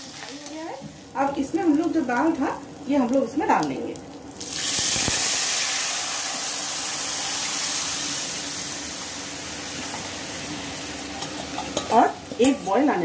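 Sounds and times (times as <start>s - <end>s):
liquid sizzling in hot oil: 0.0s - 13.0s.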